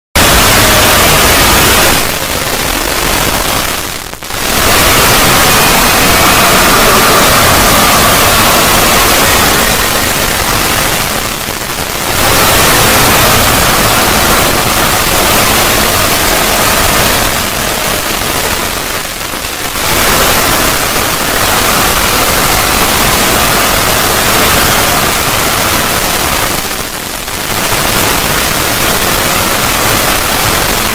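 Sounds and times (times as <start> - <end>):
harsh static noise: 0.0 - 30.9.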